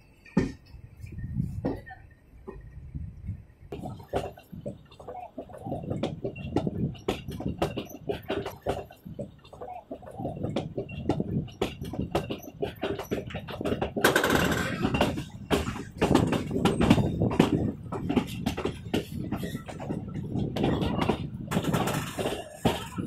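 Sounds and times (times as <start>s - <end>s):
train carriage rumble: 0.0s - 23.0s
wheels clattering: 3.7s - 23.0s.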